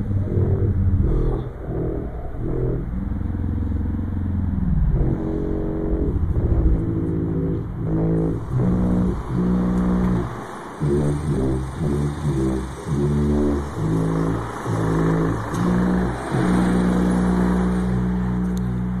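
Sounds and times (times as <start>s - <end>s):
loud low horn-like drone: 0.0s - 19.0s.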